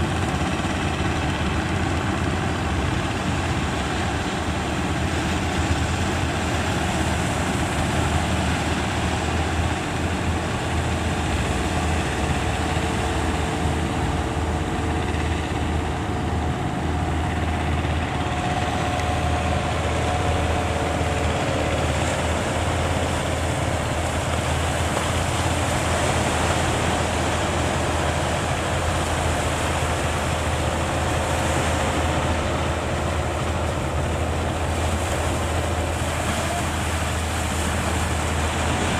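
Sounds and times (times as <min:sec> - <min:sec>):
boat engine humming: 0:00.0 - 0:38.9
sea noise: 0:00.0 - 0:38.9
wind: 0:00.0 - 0:38.9.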